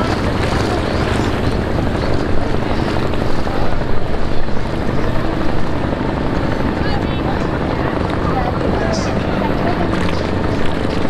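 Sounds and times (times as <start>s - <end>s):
small boat engines chugging: 0.0s - 11.0s.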